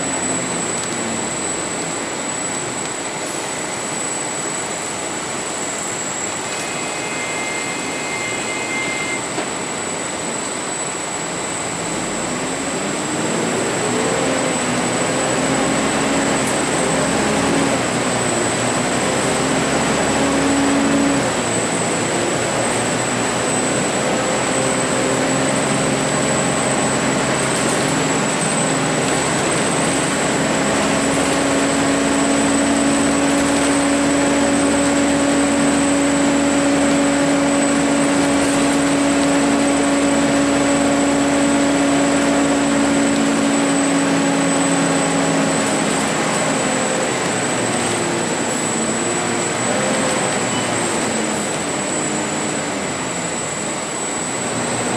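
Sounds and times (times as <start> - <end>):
bus engine and road noise: 0.0 - 7.0, 9.4 - 54.9
droning hum: 0.0 - 54.9.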